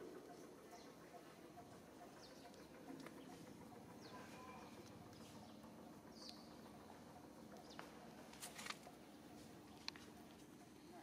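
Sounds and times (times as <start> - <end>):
faint outdoor ambience: 0.0 - 11.0.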